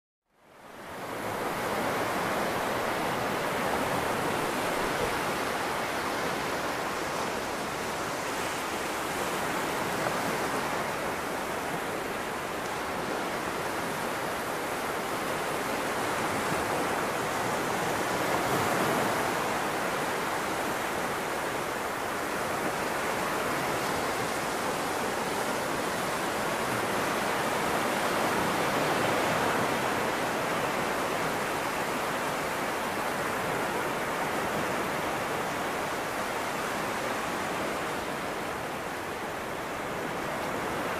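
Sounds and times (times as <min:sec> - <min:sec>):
small waves breaking on sand: 0:00.5 - 0:40.9.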